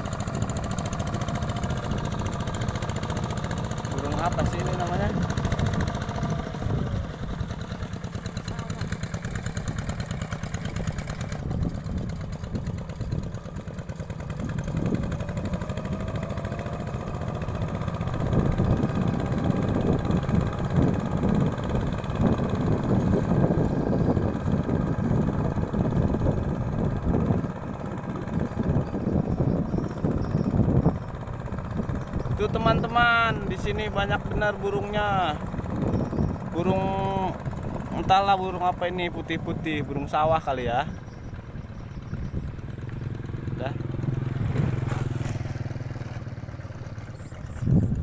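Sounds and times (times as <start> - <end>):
hand tractor engine running: 0.0 - 48.0.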